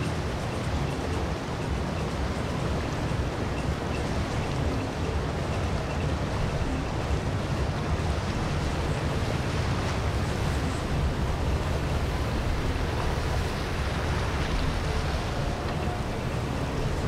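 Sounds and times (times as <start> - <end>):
moving water: 0.0 - 17.0
wind on microphone: 0.0 - 17.0.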